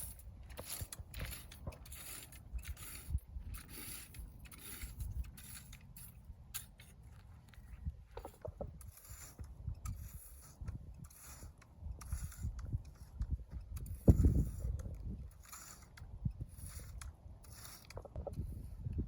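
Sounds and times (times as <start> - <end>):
weeds and dirt being scraped: 0.0 - 19.0.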